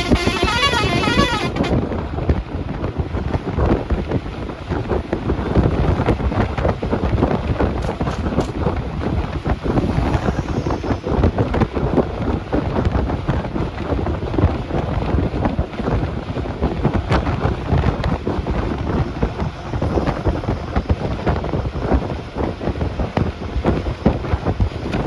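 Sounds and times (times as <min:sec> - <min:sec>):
bus rumble and road noise: 0:00.0 - 0:25.0
wind buffeting microphone: 0:00.0 - 0:25.0.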